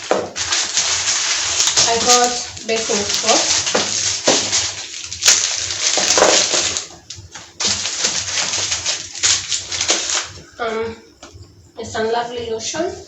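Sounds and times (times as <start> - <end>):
packaging rustling and crinkling: 0.0 - 10.6.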